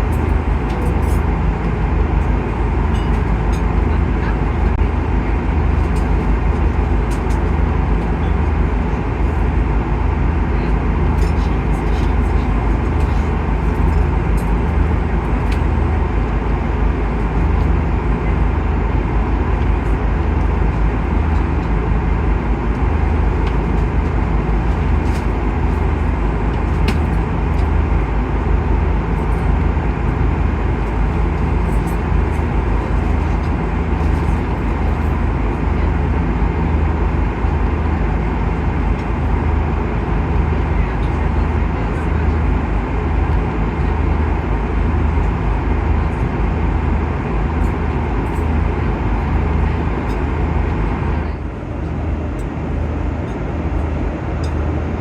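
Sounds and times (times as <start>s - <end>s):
aircraft cabin engine roar: 0.0s - 55.0s.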